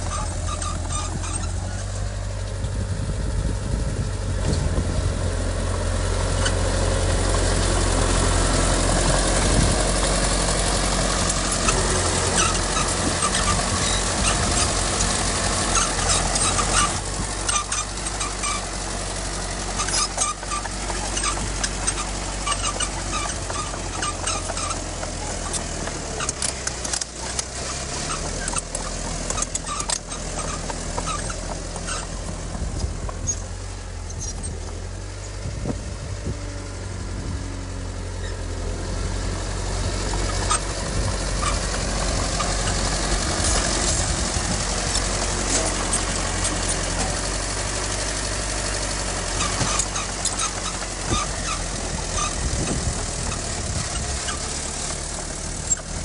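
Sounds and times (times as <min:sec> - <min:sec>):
heavy machinery diesel engine: 0:00.0 - 0:56.0
sharp clanks and rattles: 0:00.0 - 0:56.0.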